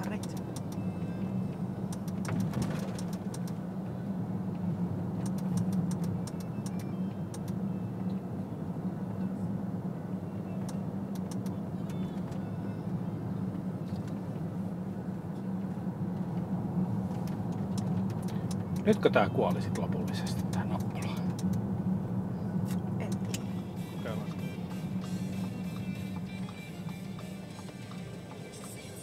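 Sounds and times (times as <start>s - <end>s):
car engine and tyre hum: 0.0s - 29.0s.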